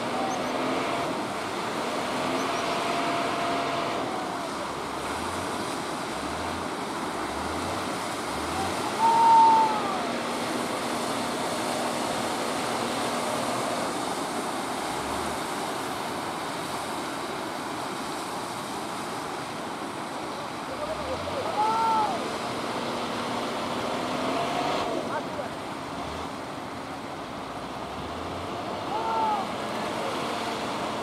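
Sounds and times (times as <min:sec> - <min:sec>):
rough surf: 0:00.0 - 0:31.0
wind: 0:00.0 - 0:31.0.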